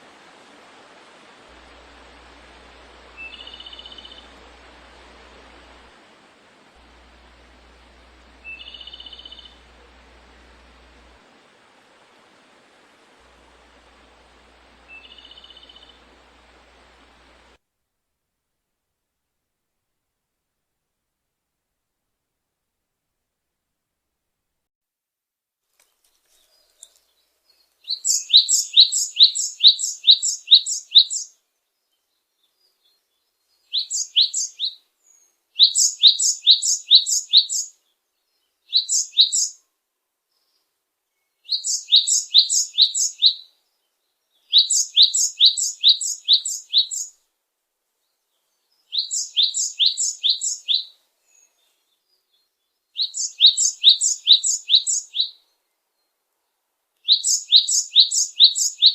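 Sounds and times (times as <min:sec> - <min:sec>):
songbird chirping: 0:00.0 - 0:17.6, 0:25.7 - 0:58.9.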